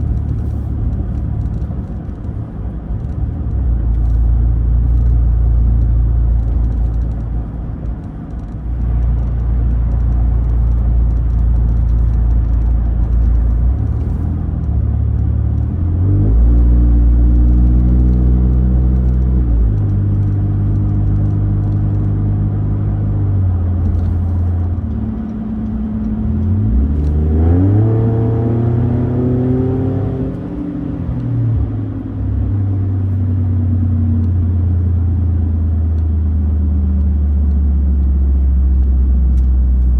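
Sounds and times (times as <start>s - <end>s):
truck engine and exhaust drone: 0.0s - 39.9s.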